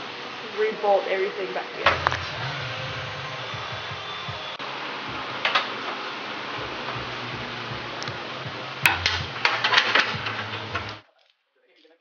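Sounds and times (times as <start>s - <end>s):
background hiss: 0.0s - 11.1s.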